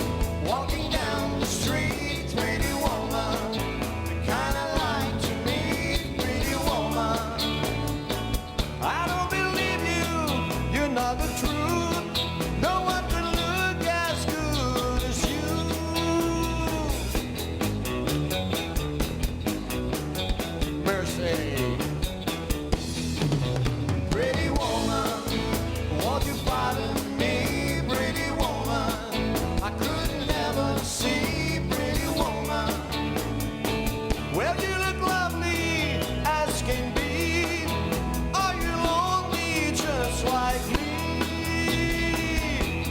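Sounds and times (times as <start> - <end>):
bass line: 0.0 - 42.9
bending melodic lead guitar: 0.0 - 42.9
drums keeping a steady beat: 0.0 - 42.9
rock and roll band playing: 0.0 - 42.9.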